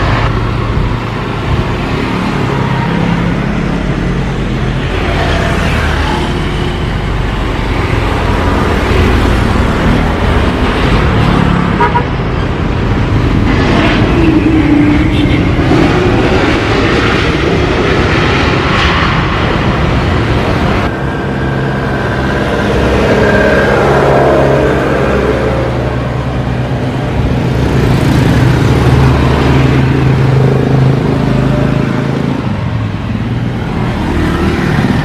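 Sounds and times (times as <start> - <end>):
airliner engines on approach: 0.0 - 35.0
jet engines landing: 0.0 - 35.0.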